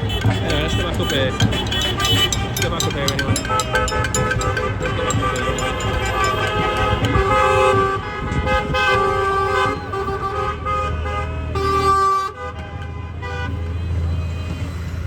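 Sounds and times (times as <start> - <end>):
car horns honking: 0.0 - 14.7
street traffic: 0.0 - 15.0.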